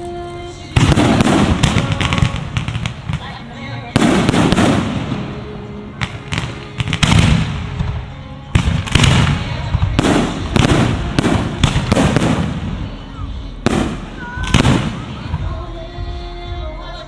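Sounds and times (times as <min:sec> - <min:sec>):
fireworks bursting with echo: 0:00.0 - 0:16.9.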